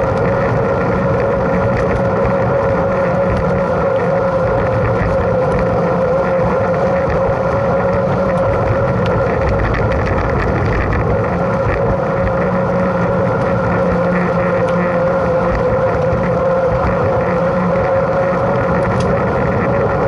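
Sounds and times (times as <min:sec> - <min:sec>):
bike tyre hum: 0:00.0 - 0:20.0
wind on microphone: 0:00.0 - 0:20.0.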